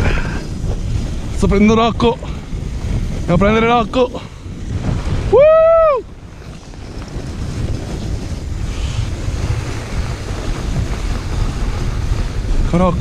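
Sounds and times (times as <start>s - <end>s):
sled hissing on snow: 0.0s - 13.0s
wind buffeting microphone: 0.0s - 13.0s.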